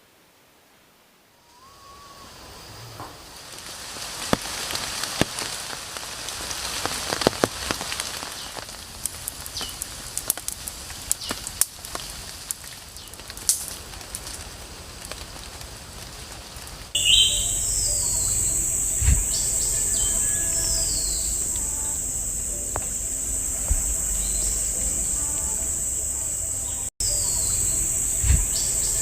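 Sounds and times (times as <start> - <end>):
rain falling: 2.3 - 29.0.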